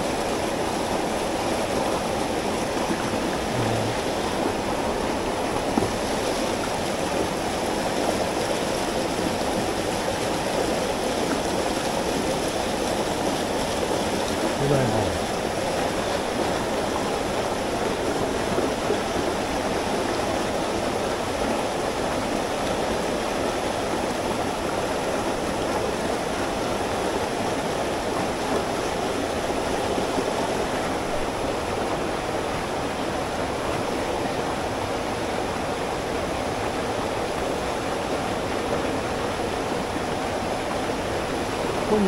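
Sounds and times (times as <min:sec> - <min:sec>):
stream water rushing: 0:00.0 - 0:42.0.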